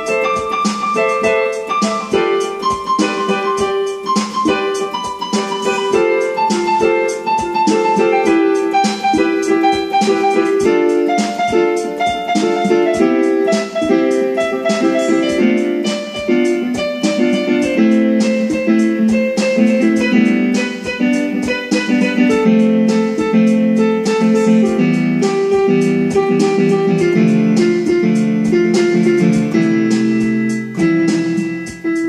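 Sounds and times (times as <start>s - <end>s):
plucked guitar notes: 0.0s - 32.0s
steady beat: 0.0s - 32.0s.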